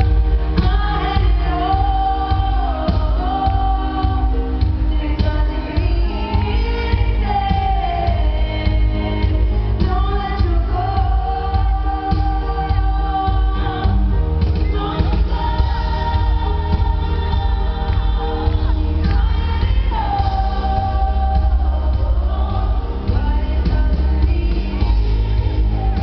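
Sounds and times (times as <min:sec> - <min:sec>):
live band with piano and drums: 0:00.0 - 0:26.0
woman singing lead: 0:00.0 - 0:26.0.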